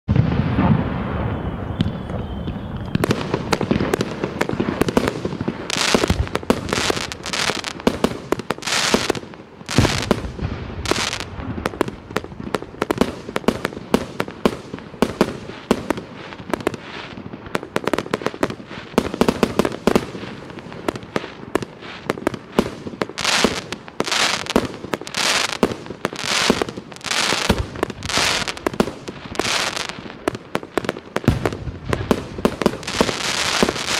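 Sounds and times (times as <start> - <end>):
fireworks launching and bursting: 0.1 - 33.9.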